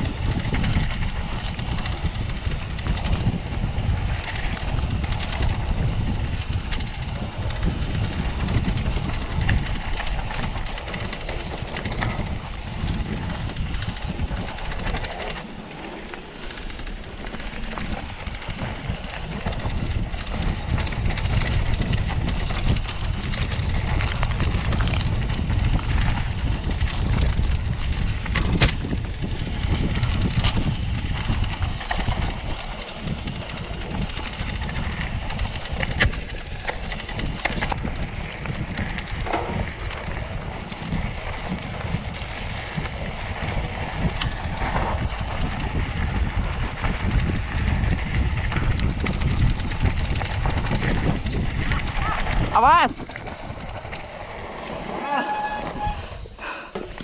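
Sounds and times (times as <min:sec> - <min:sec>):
mountain bike rattling on dirt: 0:00.0 - 0:57.0.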